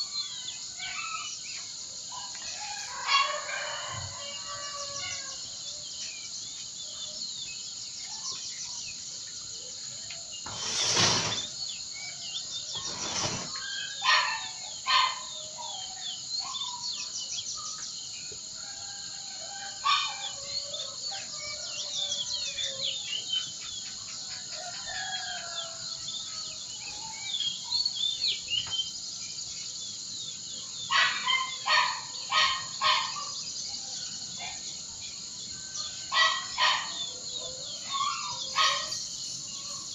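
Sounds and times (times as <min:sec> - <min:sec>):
loud repeated bird calls: 0:00.0 - 0:06.0, 0:08.0 - 0:18.0, 0:18.6 - 0:29.6, 0:30.3 - 0:39.9
birds chirping and singing: 0:00.0 - 0:39.9.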